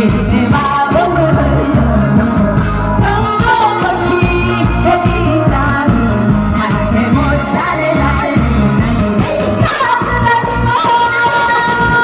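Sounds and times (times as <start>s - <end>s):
live band playing pop song: 0.0s - 12.0s
person singing: 0.0s - 12.0s.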